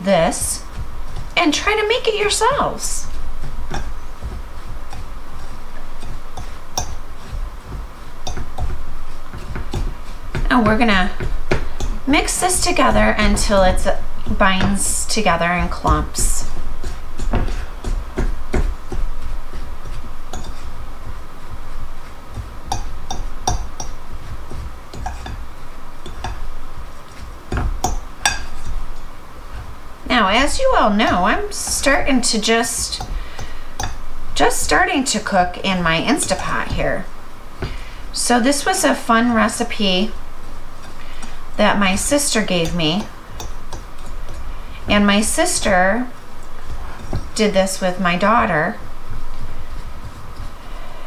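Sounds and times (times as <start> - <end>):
fork mashing crumbs in bowl: 0.1 - 51.0.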